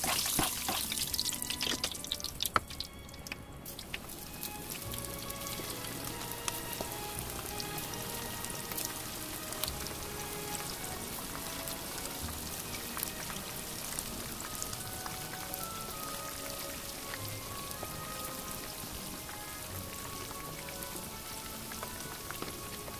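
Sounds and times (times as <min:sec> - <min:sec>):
background music: 0:00.0 - 0:22.9
fish deep-frying in oil: 0:00.0 - 0:22.9.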